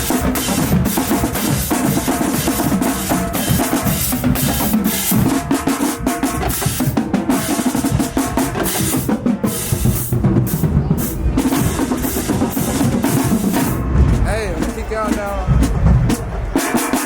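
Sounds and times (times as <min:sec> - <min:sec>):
marching drumline cadence: 0:00.0 - 0:17.0.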